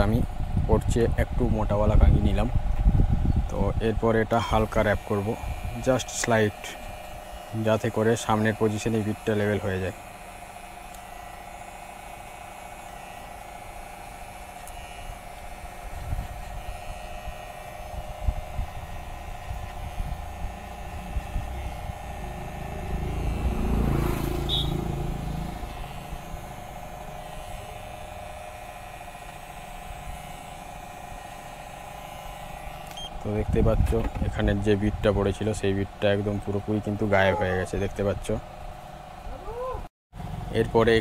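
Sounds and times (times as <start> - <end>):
hair clipper humming: 0.0 - 39.7.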